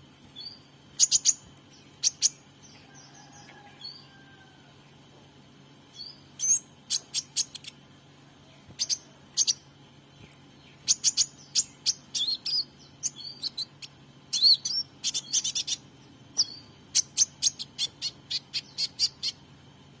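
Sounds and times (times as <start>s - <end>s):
bird chirps and trills: 0.3s - 5.0s, 5.8s - 19.5s.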